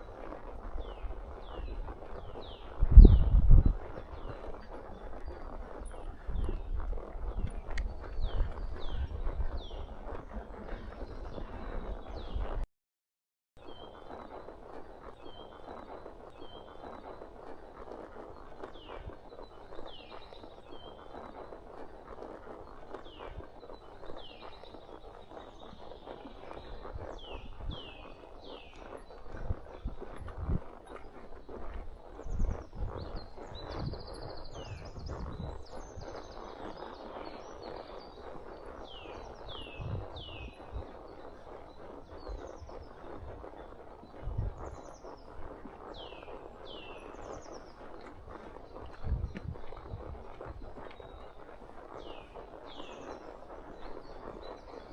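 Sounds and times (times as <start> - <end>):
horse hooves clip-clopping: 0.0 - 12.6, 13.6 - 54.9
songbirds singing: 0.0 - 12.6, 13.6 - 54.9
steady rustle: 0.0 - 12.6, 13.8 - 54.9.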